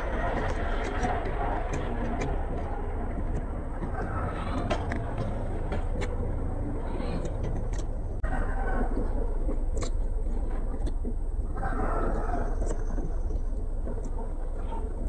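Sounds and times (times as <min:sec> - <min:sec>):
chewing and mouth sounds: 0:00.0 - 0:15.0
steady low rumble: 0:00.0 - 0:15.0.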